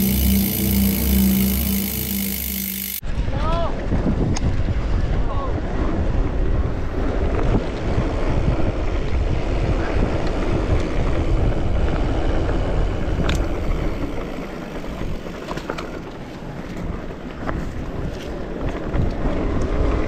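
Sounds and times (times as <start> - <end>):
bike rolling on dirt trail: 0.0 - 3.0, 3.8 - 20.0
wind buffeting microphone: 3.1 - 20.0.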